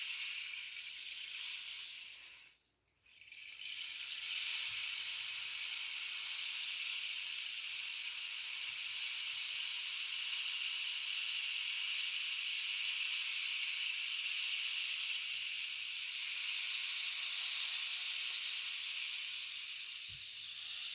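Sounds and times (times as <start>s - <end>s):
rain stick trickling hiss: 3.2s - 20.9s.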